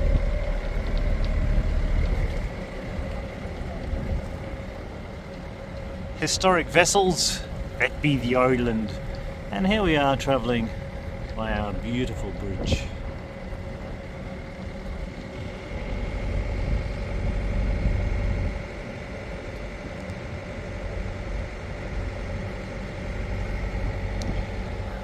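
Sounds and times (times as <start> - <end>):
boat engine rumbling: 0.0 - 25.0.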